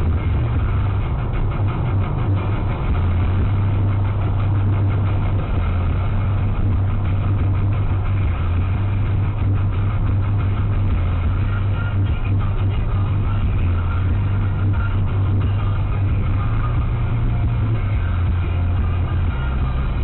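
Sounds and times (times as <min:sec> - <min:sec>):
car road and engine noise: 0:00.0 - 0:20.0
low hum: 0:00.0 - 0:20.0.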